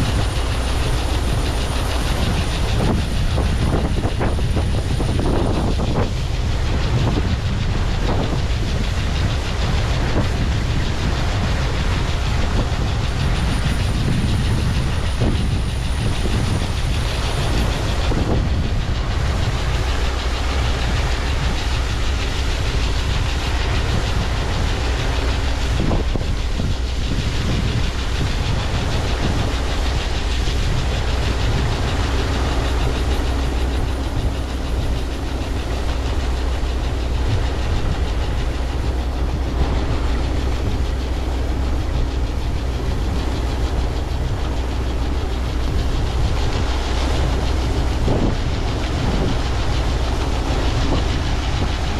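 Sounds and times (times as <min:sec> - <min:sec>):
heavy farm machinery running: 0:00.0 - 0:51.9.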